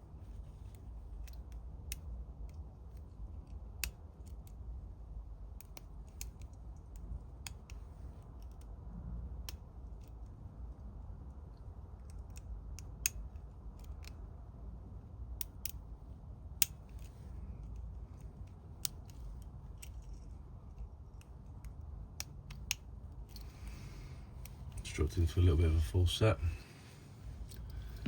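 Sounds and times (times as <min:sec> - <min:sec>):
low background hum: 0:00.0 - 0:28.0.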